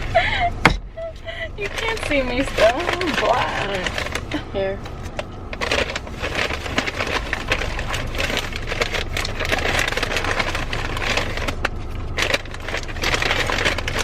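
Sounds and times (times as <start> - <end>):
low rumble: 0.0 - 14.0
paper bag rustling: 1.2 - 14.0.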